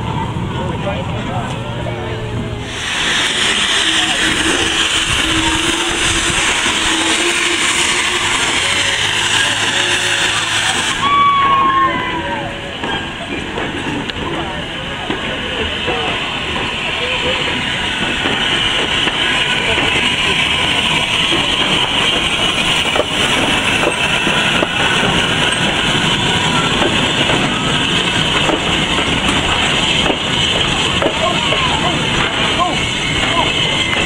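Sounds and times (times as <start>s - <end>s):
people's voices: 0.0s - 34.0s
steam locomotive passing: 0.0s - 34.0s
wheel and rail clatter: 0.0s - 34.0s.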